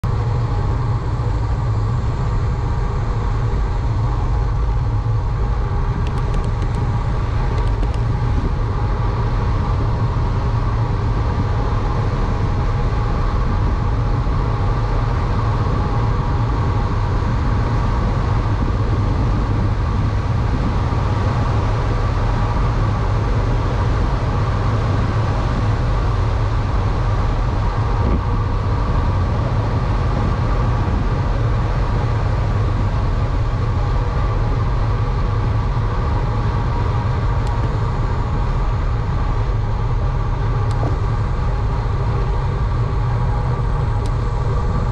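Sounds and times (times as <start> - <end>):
wind rushing over microphone: 0.0 - 44.9.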